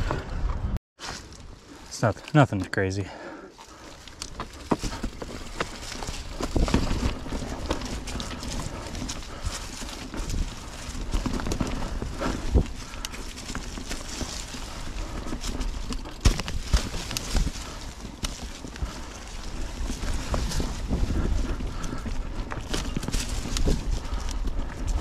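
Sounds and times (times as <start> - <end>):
bike tyres rolling on dirt: 0.0 - 25.0
bike rattling and knocking: 3.6 - 25.0.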